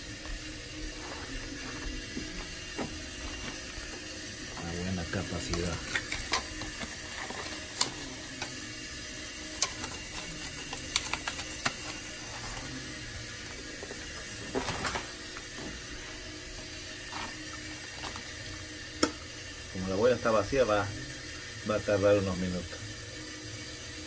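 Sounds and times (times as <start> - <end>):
boiler hum and hiss: 0.0 - 24.0.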